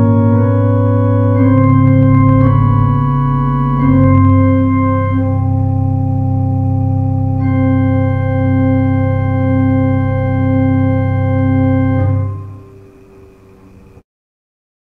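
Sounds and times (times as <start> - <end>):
organ sustained chord: 0.0 - 14.0.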